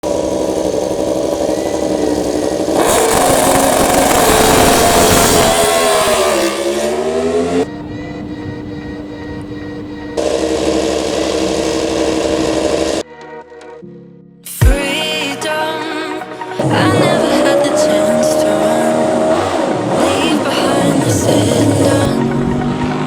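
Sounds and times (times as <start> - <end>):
race motorcycle engines revving: 0.0 - 13.0, 16.6 - 23.0.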